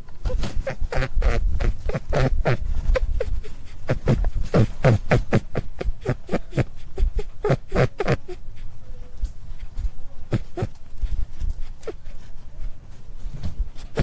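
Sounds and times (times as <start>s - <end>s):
rabbit calling: 0.0s - 12.8s, 13.7s - 14.0s.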